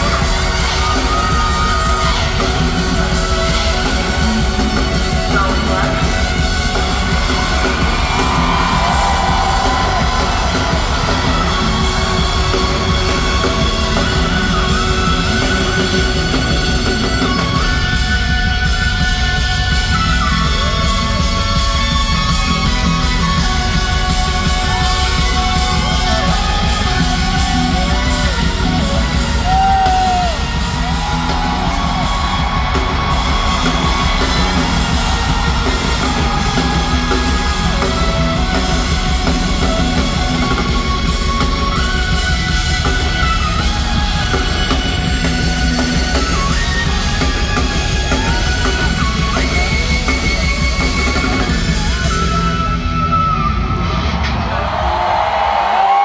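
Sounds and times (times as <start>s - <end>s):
crowd yelling: 0.0s - 56.0s
live pop song over sound system: 0.0s - 56.0s.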